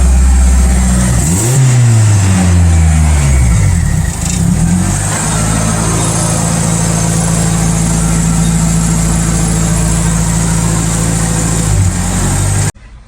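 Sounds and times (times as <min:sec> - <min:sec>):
car engine running: 0:00.0 - 0:12.7.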